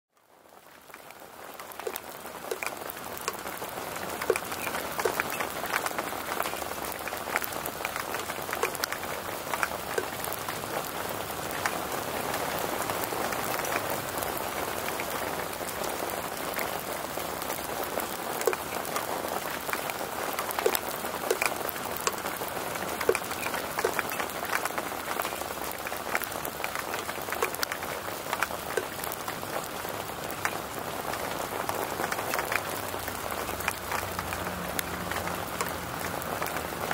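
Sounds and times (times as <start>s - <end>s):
hail striking ground: 0.4s - 36.9s.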